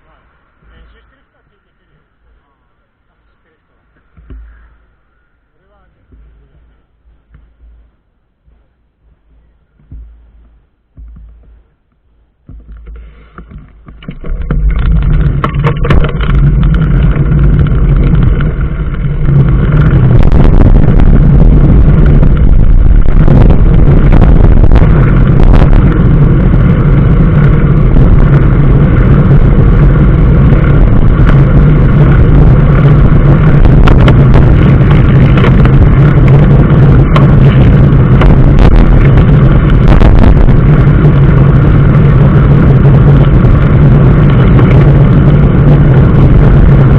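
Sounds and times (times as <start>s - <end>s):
vehicle engine and road noise: 0.0s - 46.9s.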